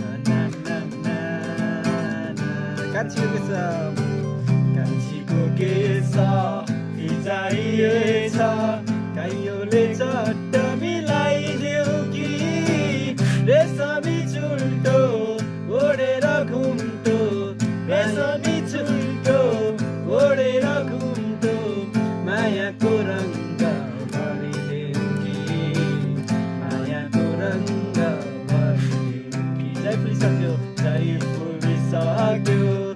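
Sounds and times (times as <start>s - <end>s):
person singing: 0.0s - 32.9s
plucked guitar: 0.0s - 32.9s.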